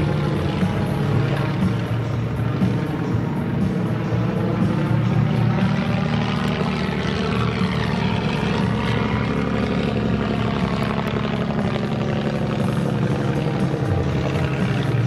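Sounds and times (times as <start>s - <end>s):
biplane engine droning overhead: 0.0s - 15.0s.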